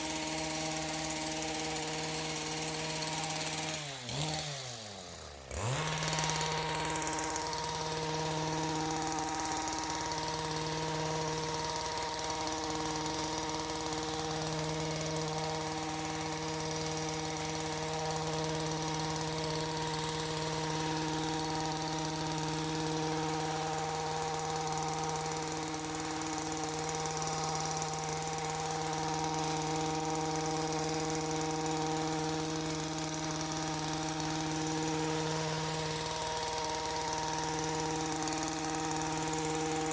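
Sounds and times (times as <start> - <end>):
small gas engine idling: 0.0 - 39.9.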